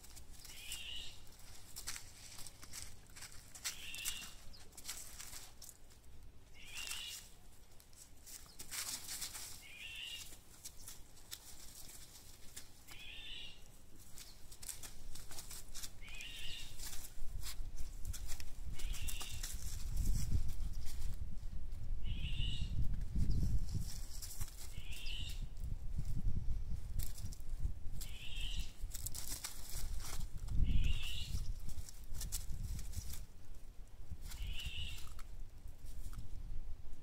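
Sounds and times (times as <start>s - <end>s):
puppies scratching through mulch: 0.0s - 21.2s, 23.1s - 25.4s, 26.8s - 36.2s.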